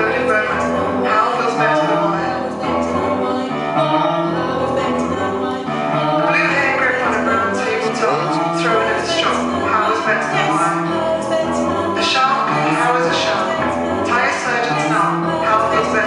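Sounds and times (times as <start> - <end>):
group singing harmonies: 0.0 - 16.0
low sustained notes: 0.0 - 16.0.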